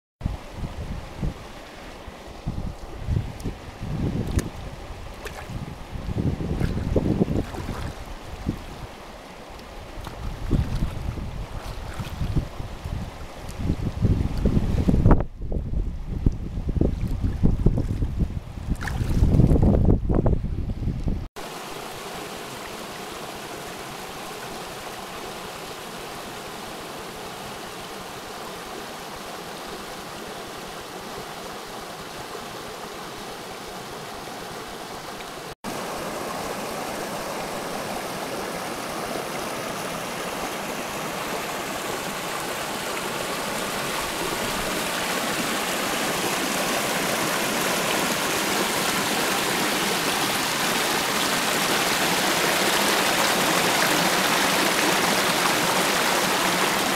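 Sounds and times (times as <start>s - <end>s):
stream rushing over stones: 0.2s - 15.2s, 21.4s - 56.9s.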